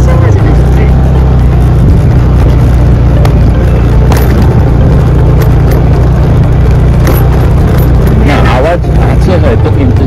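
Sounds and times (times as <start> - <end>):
vehicle low rumble: 0.0 - 10.0.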